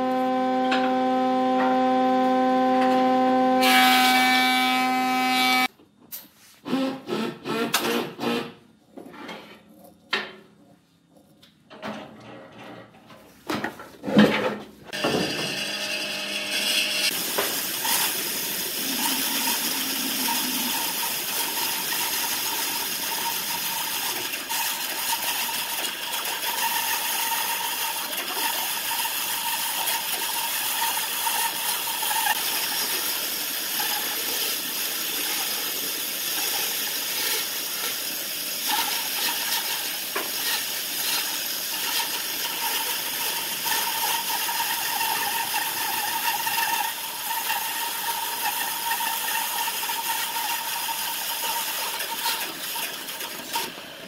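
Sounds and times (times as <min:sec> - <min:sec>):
bandsaw cutting wood: 0:00.0 - 0:05.7, 0:15.0 - 0:53.7.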